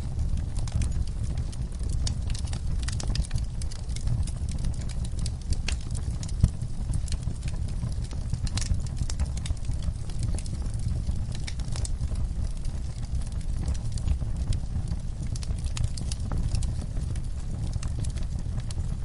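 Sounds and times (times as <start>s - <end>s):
fire crackling and popping: 0.0s - 19.0s
fire flames rumbling: 0.0s - 19.0s.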